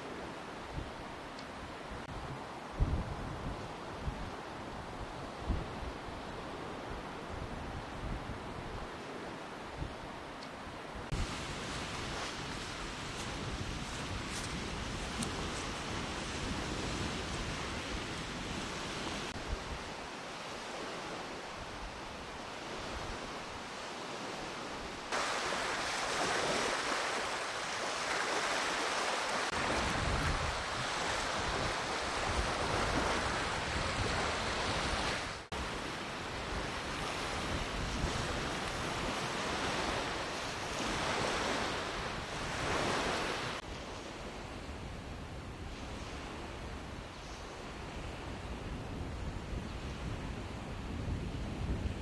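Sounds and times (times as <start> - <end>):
small waves washing on shore: 0.0 - 44.7
wind over water: 0.0 - 52.0
wind gusts buffeting microphone: 0.6 - 9.0, 10.8 - 52.0.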